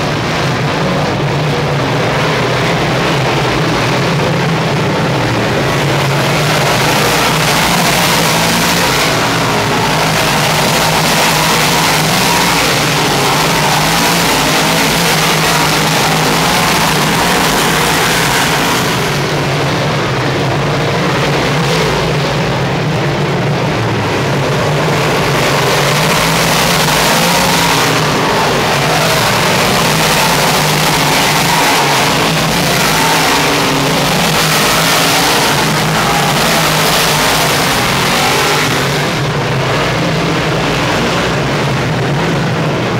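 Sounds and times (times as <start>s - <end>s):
race car engines roaring: 0.0s - 42.9s.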